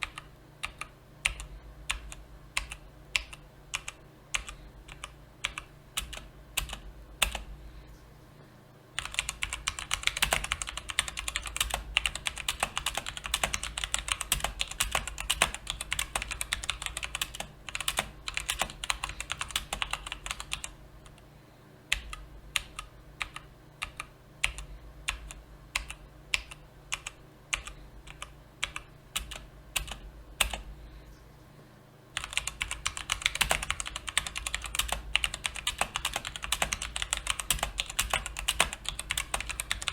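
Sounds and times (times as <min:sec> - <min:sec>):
typing on mechanical keyboard: 0:00.0 - 0:07.4, 0:09.0 - 0:20.7, 0:21.9 - 0:30.6, 0:32.2 - 0:39.9.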